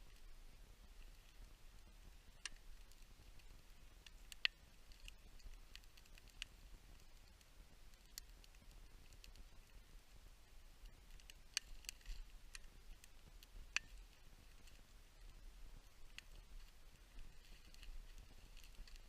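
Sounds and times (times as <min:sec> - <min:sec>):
faint sharp clicks: 0:01.0 - 0:09.8, 0:10.8 - 0:19.0.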